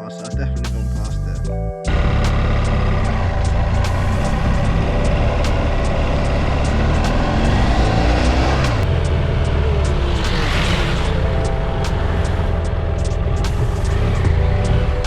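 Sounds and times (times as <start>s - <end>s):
motorcycle engine running: 1.9s - 15.0s.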